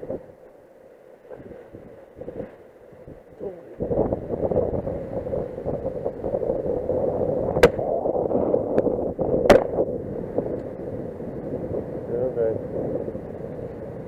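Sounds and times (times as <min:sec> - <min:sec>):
wind buffeting microphone: 0:00.0 - 0:00.5, 0:01.3 - 0:14.0.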